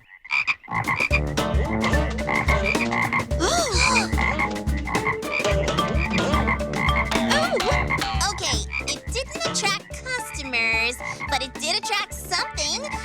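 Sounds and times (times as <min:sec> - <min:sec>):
warbling croaking tune: 0:00.5 - 0:13.0
pulsing low beat: 0:00.8 - 0:11.6.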